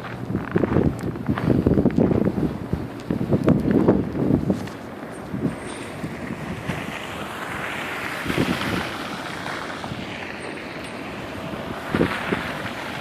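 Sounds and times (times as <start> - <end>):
city street noise hiss: 0.0 - 13.0
wind buffeting microphone: 0.0 - 13.0.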